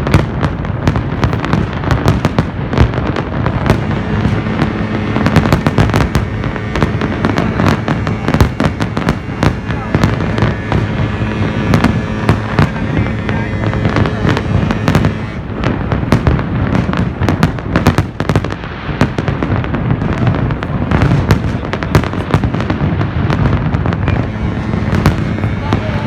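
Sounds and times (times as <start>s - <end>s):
fireworks bangs and crackles: 0.0s - 26.0s
steady low rumble: 0.0s - 26.0s.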